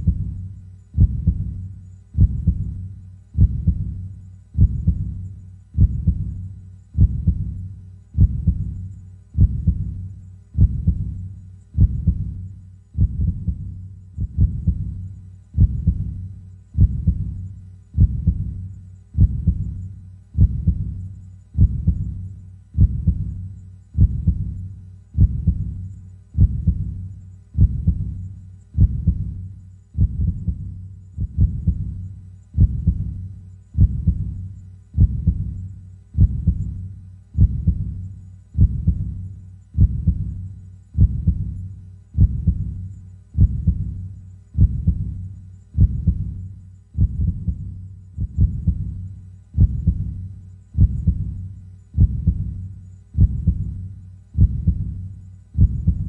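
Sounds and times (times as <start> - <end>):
slow heartbeat: 0.0 - 56.0.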